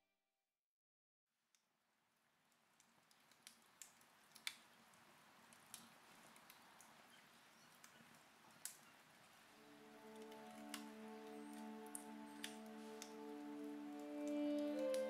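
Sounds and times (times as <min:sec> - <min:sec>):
wood fire crackling: 0:02.2 - 0:15.0.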